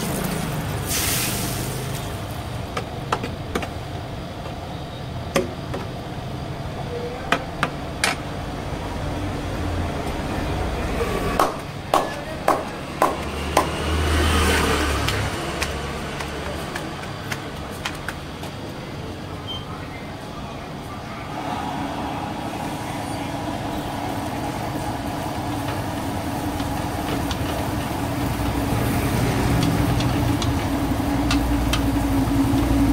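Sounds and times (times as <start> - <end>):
low rumble of street traffic: 0.0 - 32.9.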